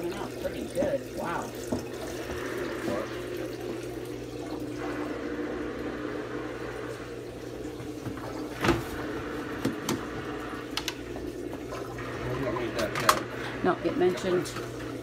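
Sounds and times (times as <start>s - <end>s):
drain pump humming: 0.0s - 15.0s
water gushing into toilet bowl: 0.0s - 15.0s.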